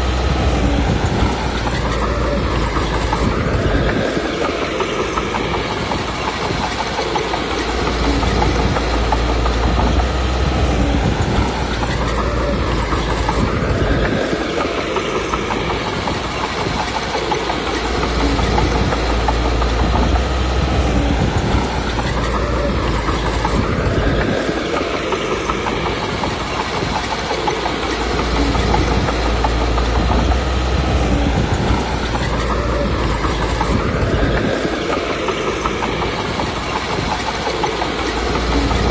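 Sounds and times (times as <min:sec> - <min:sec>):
bulldozer diesel engine: 0:00.0 - 0:38.9
steel tracks clattering: 0:00.0 - 0:38.9.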